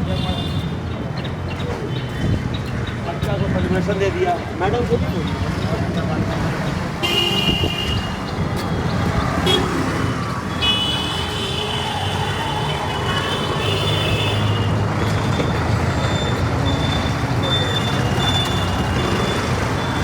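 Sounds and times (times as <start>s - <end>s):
traffic engines rumbling: 0.0s - 20.0s.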